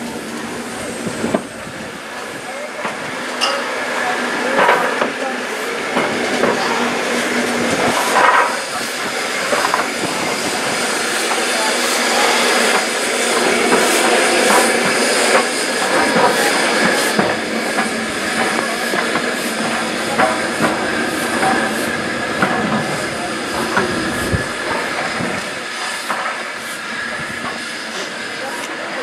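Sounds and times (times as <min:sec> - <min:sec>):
steam hissing: 0:00.0 - 0:29.0
locomotive wheels clanking: 0:04.4 - 0:28.8.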